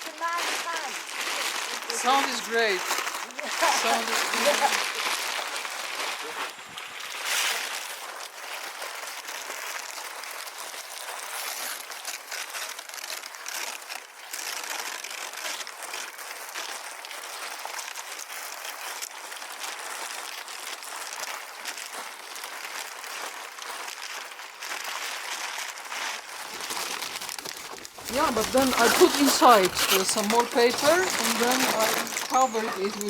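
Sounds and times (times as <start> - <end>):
paper rustling and crinkling: 0.0 - 33.0.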